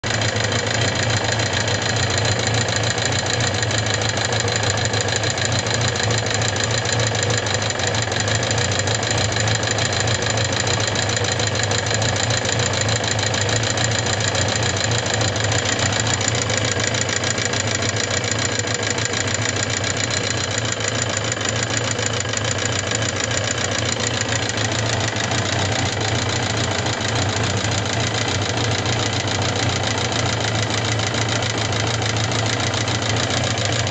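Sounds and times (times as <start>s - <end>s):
fast rattling engine tick: 0.1s - 33.9s
motorcycle engine running: 0.1s - 33.9s.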